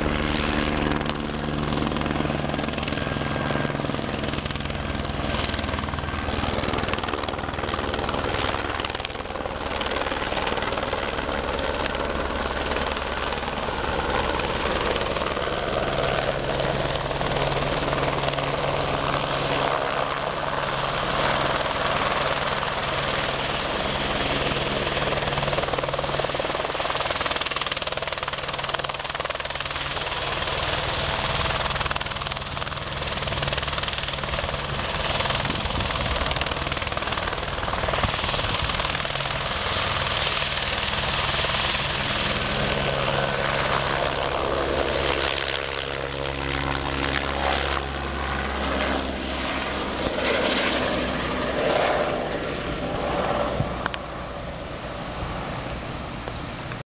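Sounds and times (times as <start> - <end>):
helicopter engine running: 0.0 - 56.8
helicopter rotor beat: 0.0 - 56.8.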